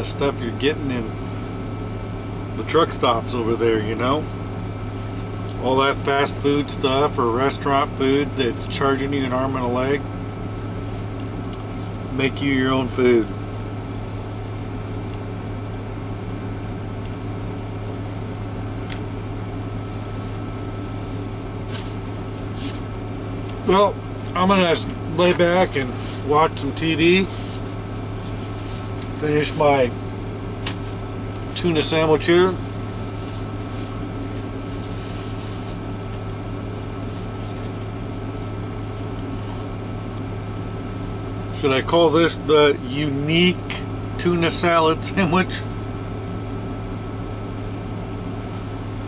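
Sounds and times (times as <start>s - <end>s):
mechanical hum with fan rush: 0.0s - 49.0s.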